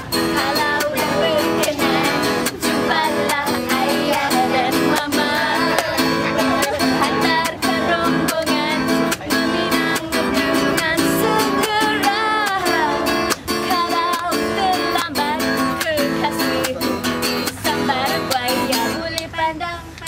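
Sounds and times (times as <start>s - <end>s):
acoustic guitar strumming: 0.0s - 19.8s
person singing: 0.0s - 20.0s.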